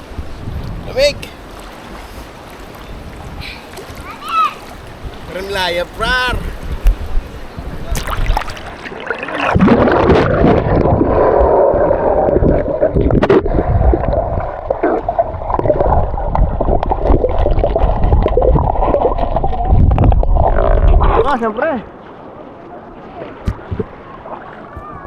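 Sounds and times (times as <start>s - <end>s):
river water rushing and gurgling: 0.0s - 25.0s.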